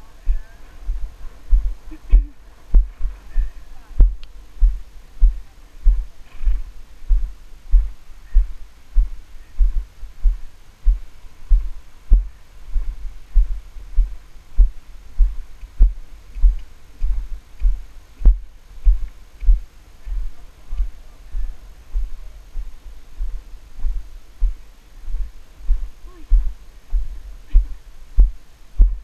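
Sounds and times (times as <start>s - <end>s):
horse hooves thumping on sand: 0.2s - 29.0s.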